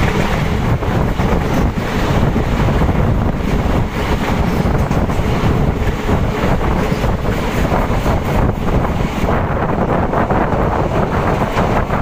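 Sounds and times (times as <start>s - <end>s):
train rumbling at speed: 0.0s - 12.0s
wind buffeting the microphone: 0.0s - 12.0s.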